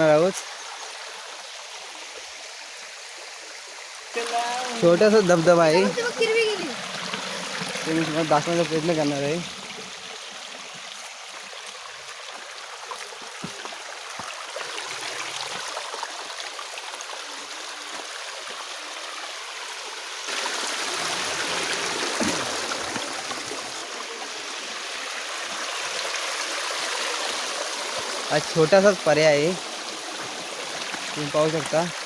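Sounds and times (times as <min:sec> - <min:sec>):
stream and waterfall rushing: 0:00.0 - 0:32.0.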